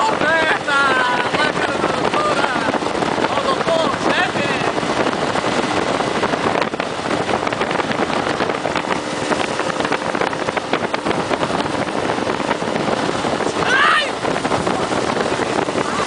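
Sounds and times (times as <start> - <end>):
outboard motor running: 0.0 - 16.0
wind on microphone: 0.0 - 16.0.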